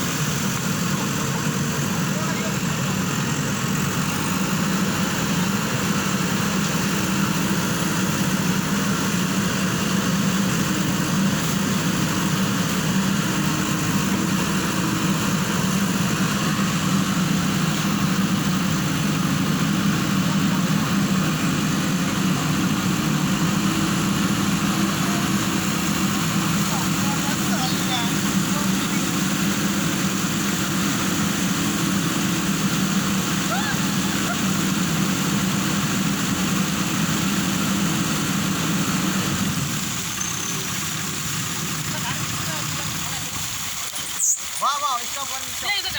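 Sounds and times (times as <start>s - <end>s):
diesel engine droning: 0.0s - 44.6s.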